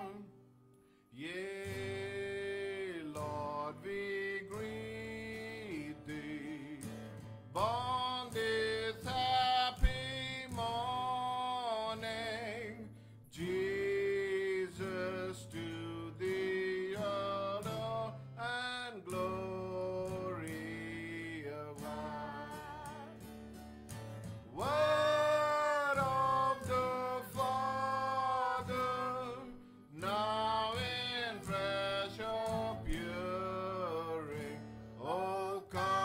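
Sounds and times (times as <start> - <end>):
strummed acoustic guitar: 0.0 - 36.0.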